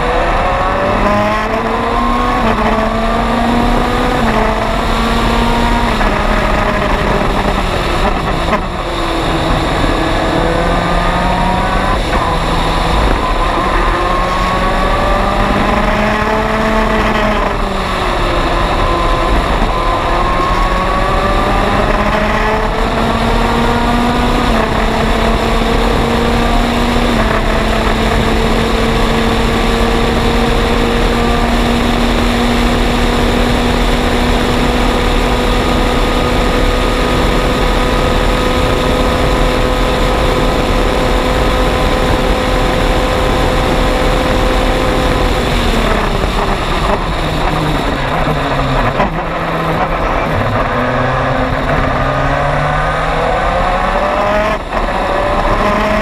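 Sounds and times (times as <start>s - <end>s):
race car engine at high revs: 0.0s - 56.0s
wind rush: 0.0s - 56.0s.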